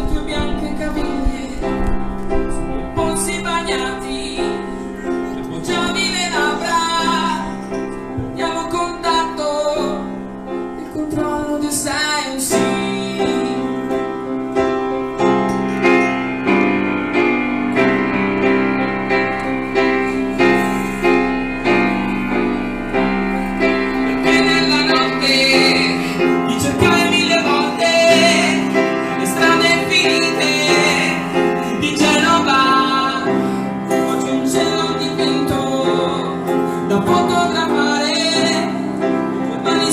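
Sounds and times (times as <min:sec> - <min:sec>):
grand piano accompaniment: 0:00.0 - 0:39.9.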